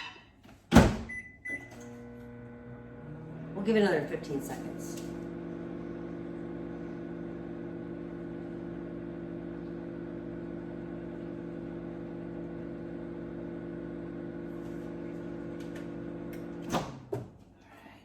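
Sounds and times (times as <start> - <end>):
microwave oven humming: 0.8 - 17.2.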